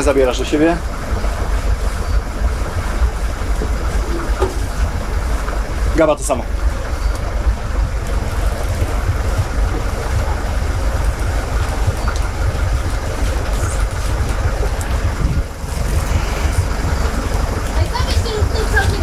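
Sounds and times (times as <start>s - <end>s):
boat engines idling: 0.0s - 19.0s.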